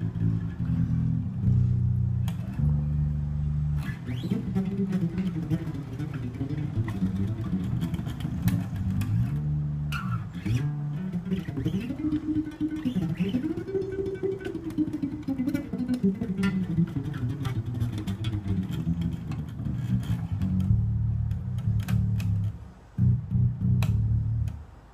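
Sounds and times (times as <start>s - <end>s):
electric bass plucked notes: 0.0s - 24.7s.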